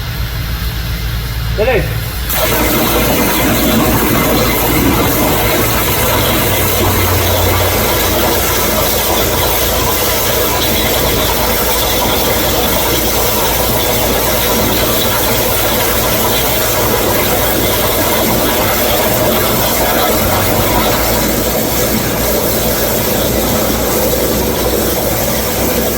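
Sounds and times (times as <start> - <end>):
low machine hum: 0.0 - 25.9
plasma torch hissing: 0.0 - 25.9.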